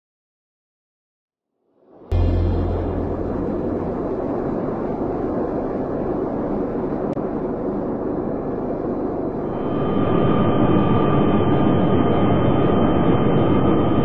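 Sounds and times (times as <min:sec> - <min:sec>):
jet engine roar: 0:02.1 - 0:14.0.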